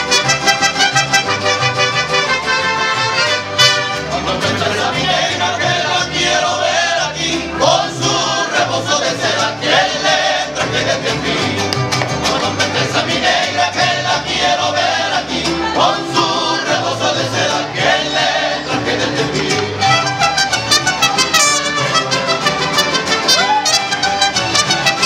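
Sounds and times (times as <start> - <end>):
mariachi band playing: 0.0 - 25.0.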